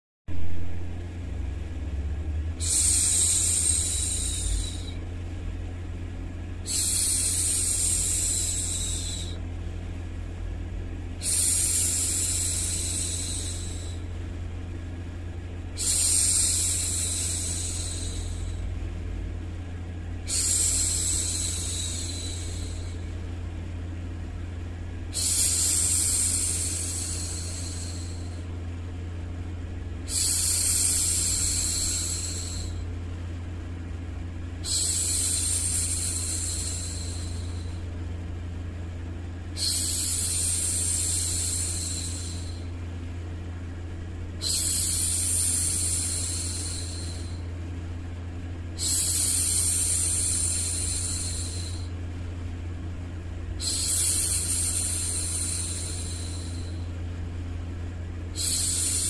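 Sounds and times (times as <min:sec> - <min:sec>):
low background hum: 0:00.3 - 0:59.0.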